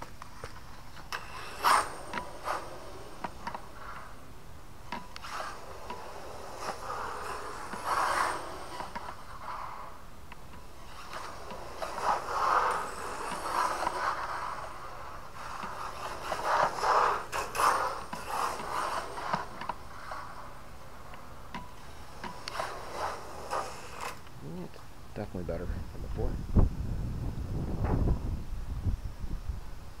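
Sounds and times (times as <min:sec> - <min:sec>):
rc car motor whirring: 0:00.0 - 0:24.6.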